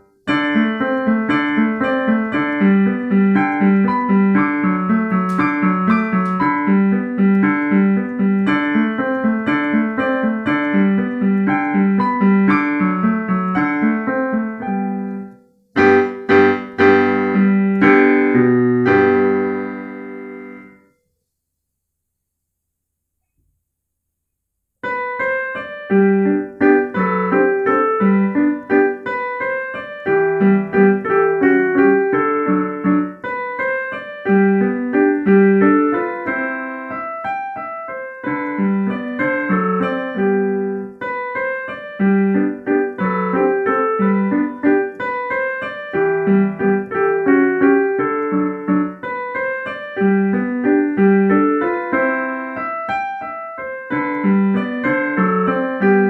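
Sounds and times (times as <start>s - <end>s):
digital piano classical piece: 0.0s - 21.1s, 24.7s - 56.0s.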